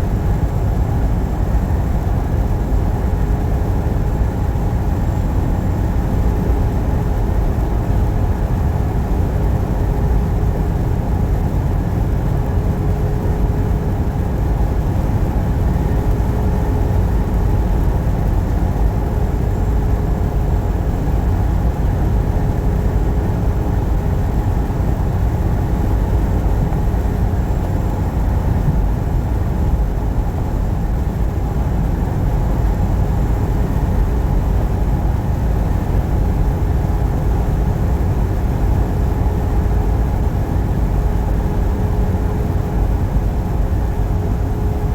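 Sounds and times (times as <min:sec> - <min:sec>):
faint constant hum: 0:00.0 - 0:44.9.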